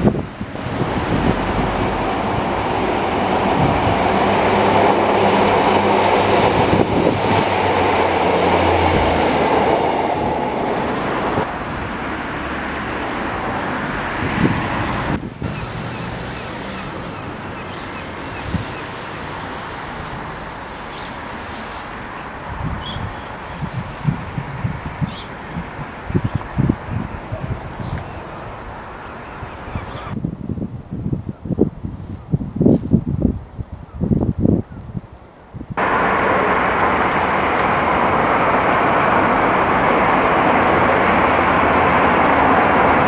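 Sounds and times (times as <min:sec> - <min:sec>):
diesel train passing: 0:00.0 - 0:30.2, 0:35.8 - 0:43.0.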